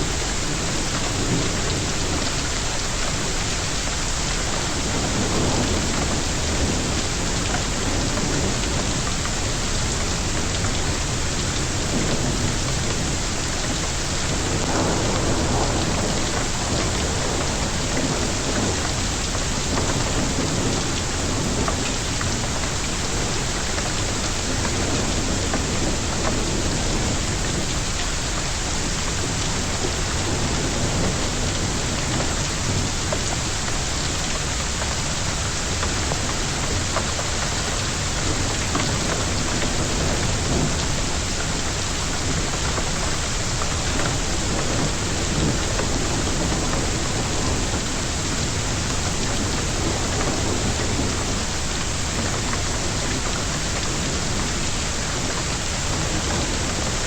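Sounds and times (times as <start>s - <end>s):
heavy rain and hail pelting: 0.0s - 57.0s.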